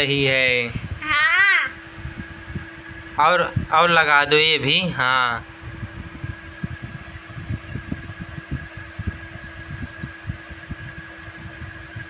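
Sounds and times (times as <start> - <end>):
fan hum: 0.0 - 12.0.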